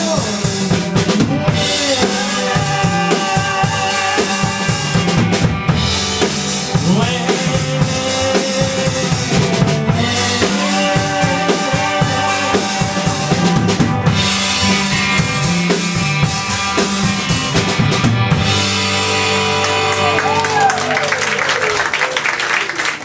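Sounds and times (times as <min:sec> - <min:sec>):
busy drum kit: 0:00.0 - 0:21.5
live band playing: 0:00.0 - 0:22.2.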